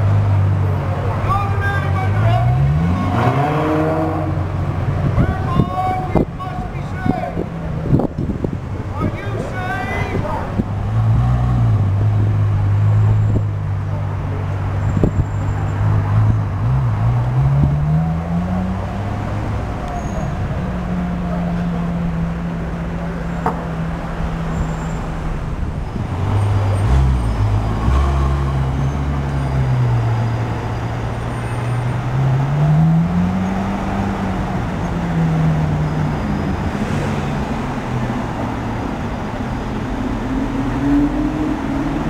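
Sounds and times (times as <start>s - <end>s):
traffic noise: 0.0s - 42.0s
car engine accelerating: 2.0s - 5.2s, 10.5s - 42.0s.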